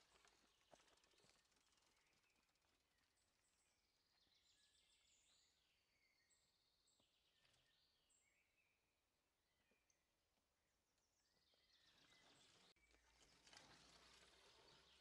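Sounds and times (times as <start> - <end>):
faint woodland birdsong: 0.0 - 15.0.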